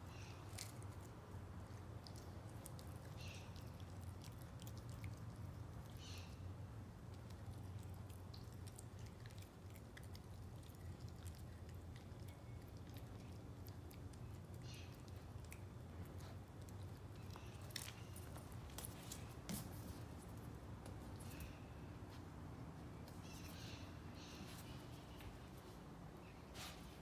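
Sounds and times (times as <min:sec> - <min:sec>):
steady low hum: 0:00.0 - 0:27.0
puppy chewing crunchy food: 0:00.3 - 0:23.3.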